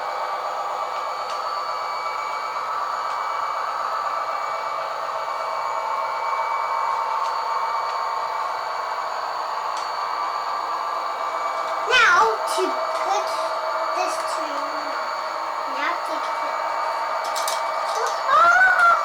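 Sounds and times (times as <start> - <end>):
model train motor whirring: 2.4 - 19.0.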